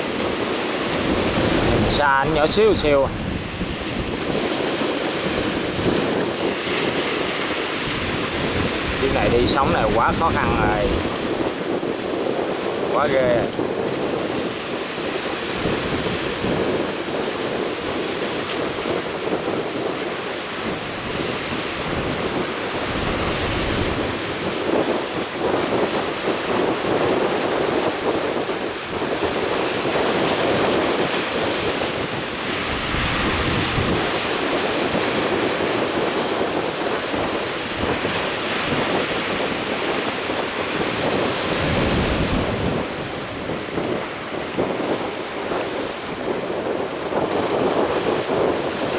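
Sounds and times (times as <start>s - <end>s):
rough sea rushing: 0.0s - 48.9s
wind buffeting microphone: 0.0s - 48.9s.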